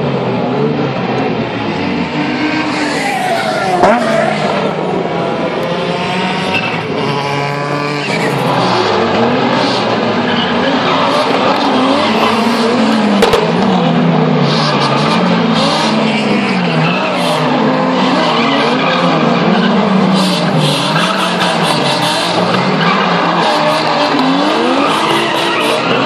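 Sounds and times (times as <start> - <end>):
car engines revving: 0.0 - 26.0
tyres squealing and skidding: 1.6 - 26.0.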